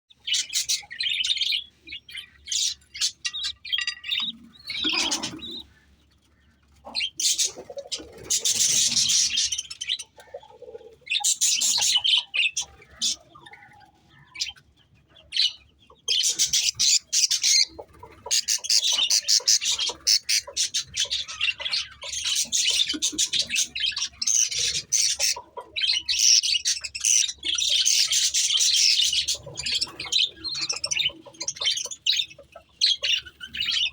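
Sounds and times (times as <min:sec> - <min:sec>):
budgies chirping: 0:00.1 - 0:33.9.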